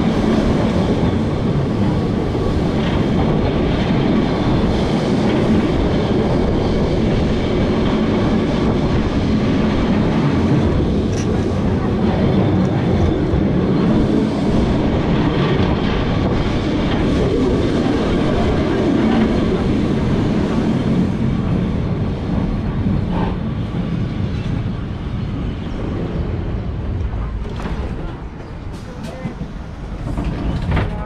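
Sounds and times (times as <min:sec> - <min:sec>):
tram rumbling on rails: 0:00.0 - 0:31.0.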